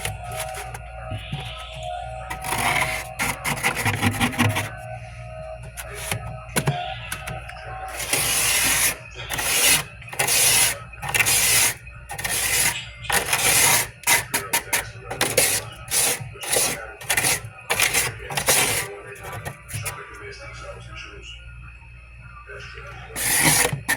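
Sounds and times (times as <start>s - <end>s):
frost being scraped: 0.0s - 4.9s, 5.6s - 19.9s, 23.1s - 23.9s.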